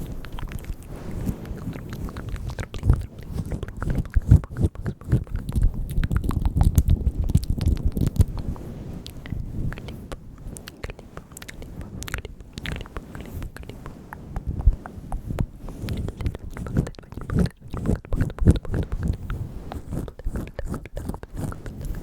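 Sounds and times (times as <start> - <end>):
wet mouth clicks and smacks: 0.0 - 22.0.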